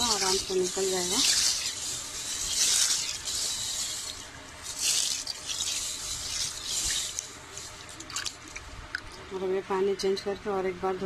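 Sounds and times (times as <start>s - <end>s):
water sloshing in steel bowl: 0.0s - 9.4s.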